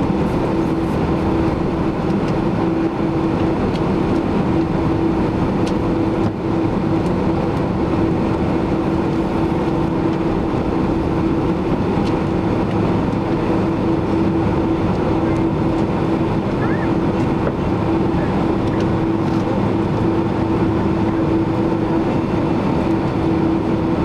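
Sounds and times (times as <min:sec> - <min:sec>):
airplane cabin rush: 0:00.0 - 0:24.0.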